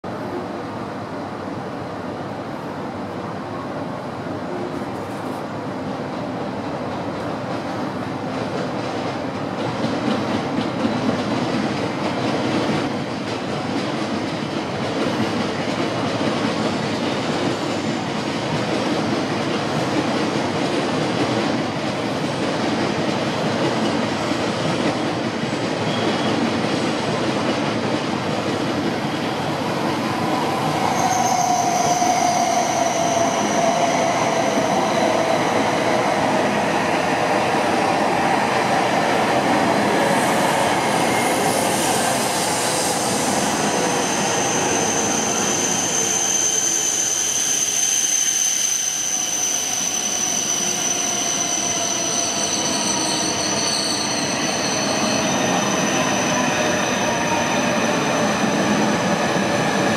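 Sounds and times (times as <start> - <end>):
high whine of train: 0.0 - 59.9
high-speed train rumbling past: 0.0 - 59.9.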